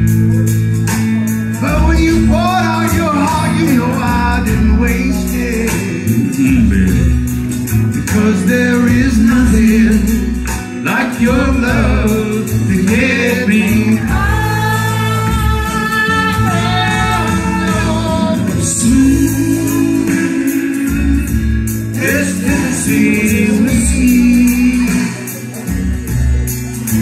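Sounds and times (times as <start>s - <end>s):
karaoke backing track: 0.0s - 27.0s
men singing into microphones: 1.6s - 25.7s.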